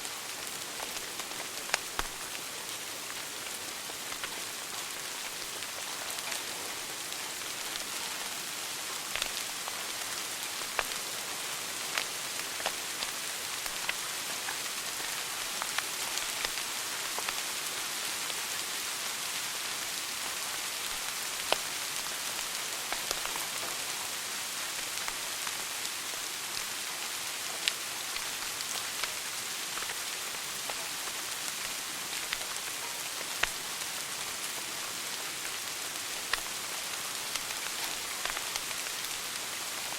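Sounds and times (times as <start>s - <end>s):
wood fire burning: 0.0s - 17.4s, 20.2s - 23.4s, 24.4s - 39.9s
fire crackles and pops: 0.0s - 39.9s.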